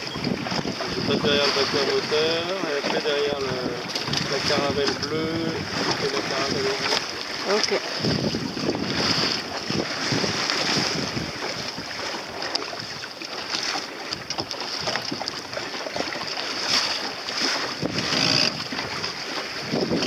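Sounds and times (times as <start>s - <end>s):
water splashing against boat hull: 0.0s - 20.0s
wind buffeting microphone: 0.0s - 20.0s.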